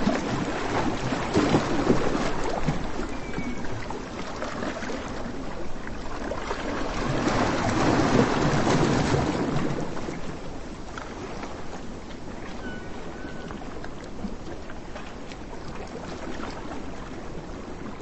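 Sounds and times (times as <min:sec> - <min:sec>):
waves breaking on a beach: 0:00.0 - 0:18.0.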